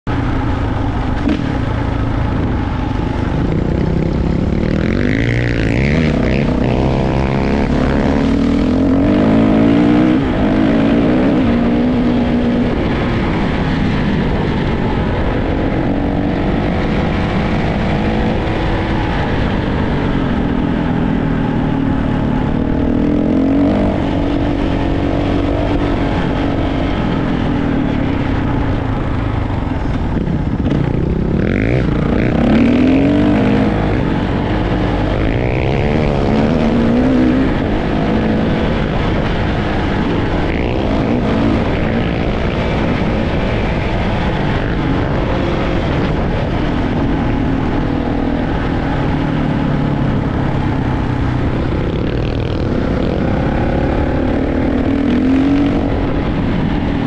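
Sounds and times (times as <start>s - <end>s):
dirt bike engine revving: 2.6s - 20.4s, 21.1s - 49.3s.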